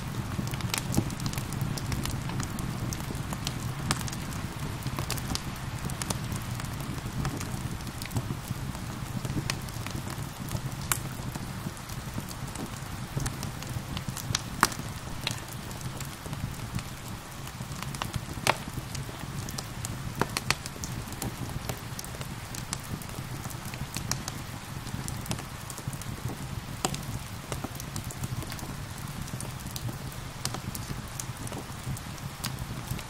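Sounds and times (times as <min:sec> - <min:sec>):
gentle rain hissing: 0:00.0 - 0:33.0
wood fire crackling: 0:00.0 - 0:33.0.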